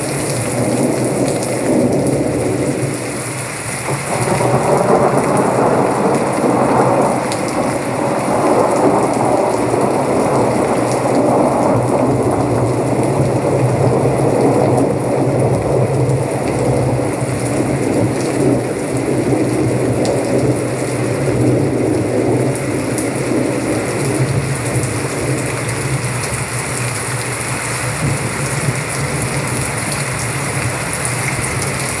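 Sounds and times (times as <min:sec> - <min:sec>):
low thunder rumble: 0:00.0 - 0:32.0
rushing rain from speaker: 0:00.0 - 0:32.0.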